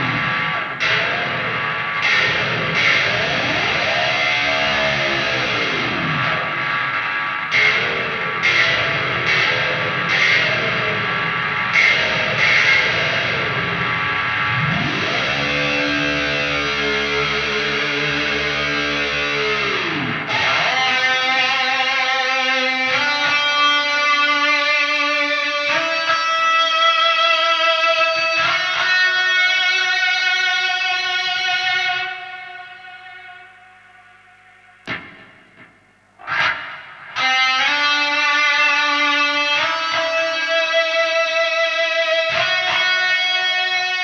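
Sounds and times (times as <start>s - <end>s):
distorted electric guitar: 0.0s - 44.0s.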